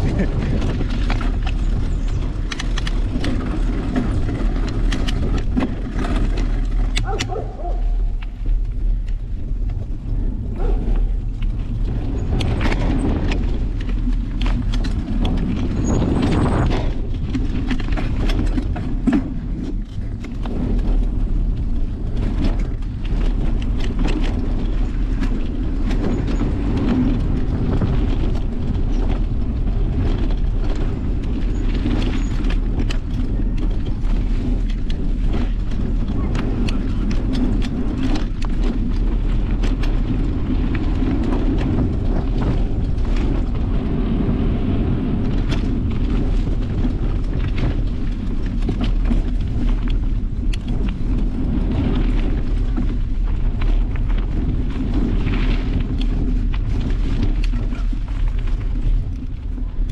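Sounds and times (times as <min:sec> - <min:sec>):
bike rattling and knocking: 0:00.0 - 0:59.9
tyres crunching over gravel: 0:00.0 - 0:59.9
wind rumble on microphone: 0:00.0 - 0:59.9.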